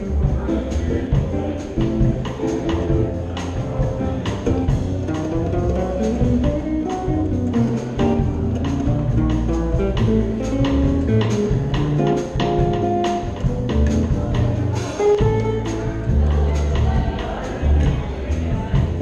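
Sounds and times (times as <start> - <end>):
electric guitar melody: 0.0 - 17.1
drums keeping a steady beat: 0.0 - 19.0
upright double bass walking: 0.0 - 19.0.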